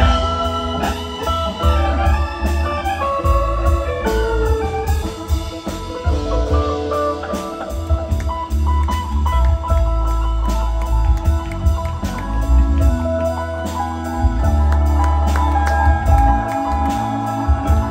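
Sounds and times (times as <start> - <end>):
live band playing: 0.0 - 17.9
organ sound keyboard: 0.0 - 17.9.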